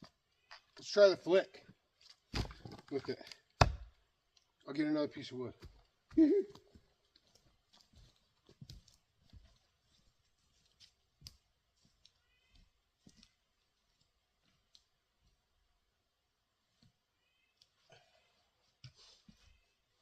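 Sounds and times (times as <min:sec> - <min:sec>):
firewood being handled: 0:01.6 - 0:04.6, 0:05.5 - 0:20.0.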